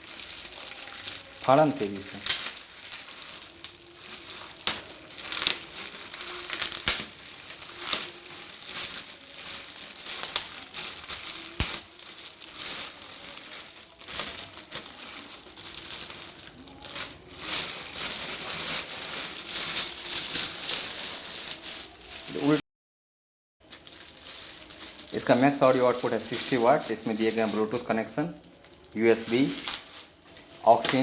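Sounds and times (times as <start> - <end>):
packaging tearing and crinkling: 0.0 - 22.6, 23.6 - 31.0.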